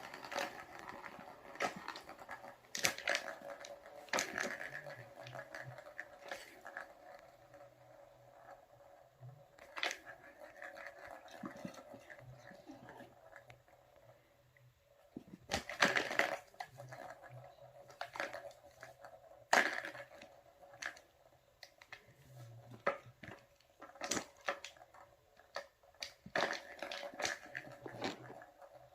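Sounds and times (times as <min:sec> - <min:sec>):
plastic balls rattling in toy tracks: 0:00.0 - 0:14.2, 0:14.9 - 0:28.9.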